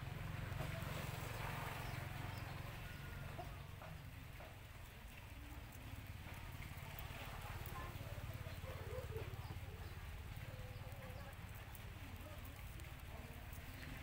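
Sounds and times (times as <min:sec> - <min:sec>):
rabbit chewing greens: 0:00.0 - 0:14.0.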